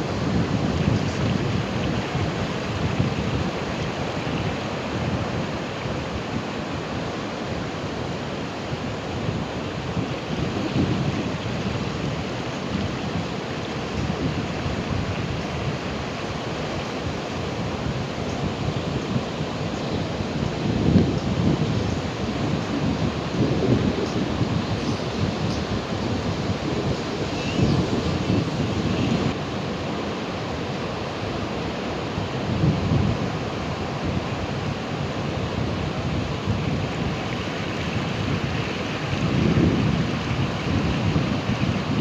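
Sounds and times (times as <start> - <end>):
waves breaking on shore: 0.0 - 42.0.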